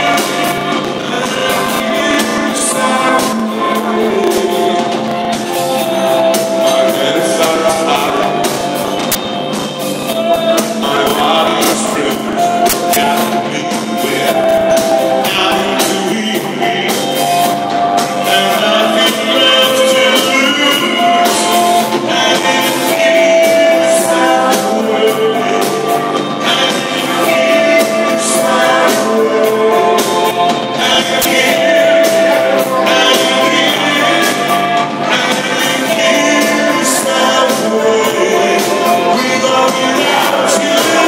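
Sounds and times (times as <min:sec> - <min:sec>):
lead singer singing: 0:00.0 - 0:41.0
live rock band playing: 0:00.0 - 0:41.0.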